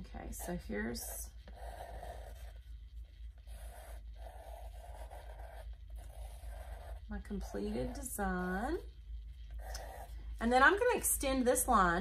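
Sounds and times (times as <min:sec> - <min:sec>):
pencil scratching on canvas: 0:00.0 - 0:12.0.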